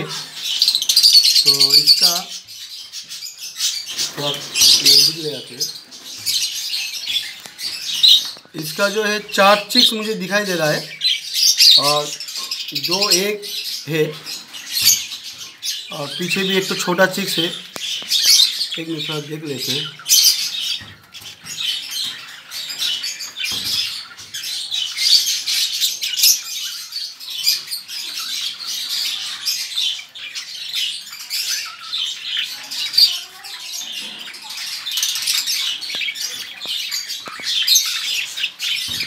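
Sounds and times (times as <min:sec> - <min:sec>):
parrots chattering and squawking: 0:00.0 - 0:39.0.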